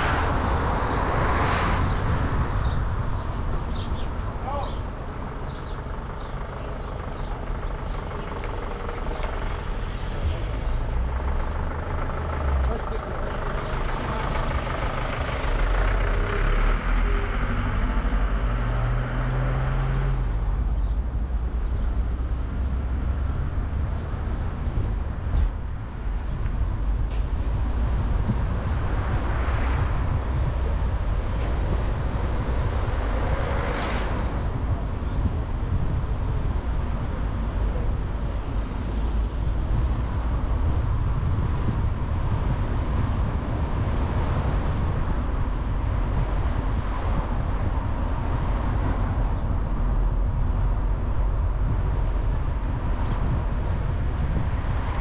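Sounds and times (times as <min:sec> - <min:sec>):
car engine and road rumble: 0:00.0 - 0:55.0
passing traffic: 0:00.0 - 0:55.0.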